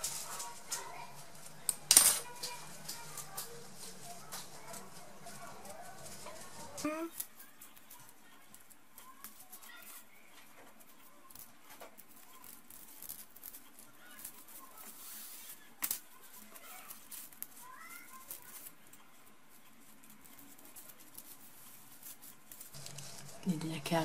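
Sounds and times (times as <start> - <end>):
needle and thread rustling: 0.0 - 24.0.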